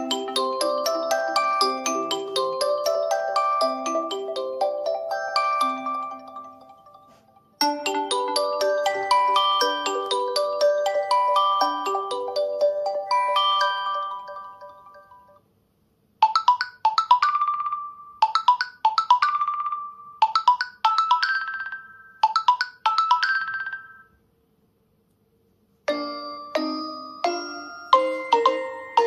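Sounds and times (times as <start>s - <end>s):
bright chiming ringtone: 0.0s - 15.4s, 16.2s - 24.2s, 25.9s - 29.0s
ringtone with lower fuller notes: 0.0s - 15.5s, 16.2s - 24.2s, 25.9s - 29.0s.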